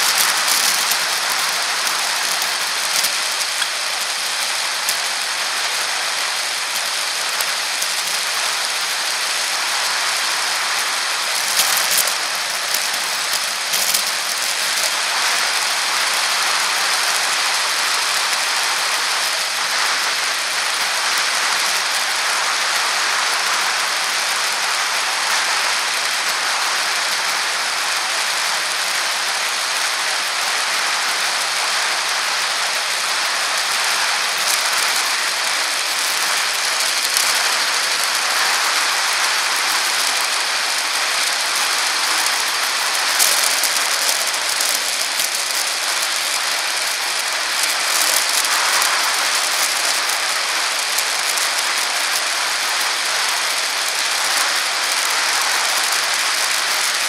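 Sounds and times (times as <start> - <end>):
bicycle tyre rattling hiss: 0.0 - 57.0
loud crackles: 0.0 - 57.0.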